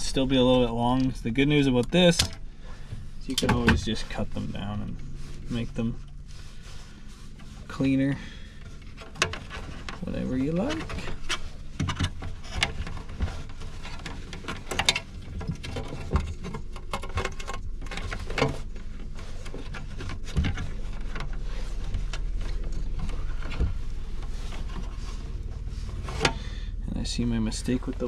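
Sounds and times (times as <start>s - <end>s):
steady low hum: 0.0s - 28.0s
wires rustling and scraping: 0.0s - 28.0s.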